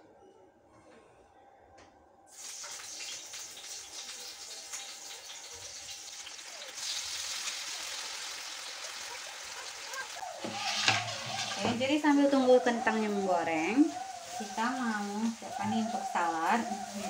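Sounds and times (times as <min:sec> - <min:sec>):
hot oil sizzling: 0:02.3 - 0:17.0.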